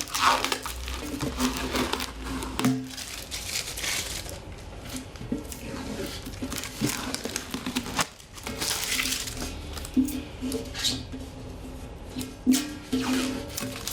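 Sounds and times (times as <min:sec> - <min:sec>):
plastic film peeling and crinkling: 0:00.0 - 0:11.0, 0:12.1 - 0:13.9.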